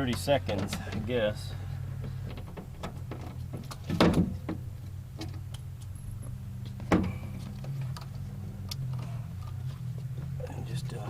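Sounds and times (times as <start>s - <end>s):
low hum: 0.8s - 11.0s.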